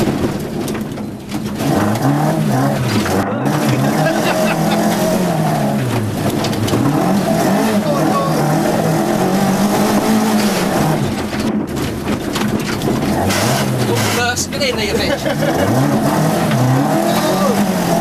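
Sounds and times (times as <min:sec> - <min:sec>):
car engine revving: 0:00.0 - 0:18.0
road and wind noise: 0:00.0 - 0:18.0.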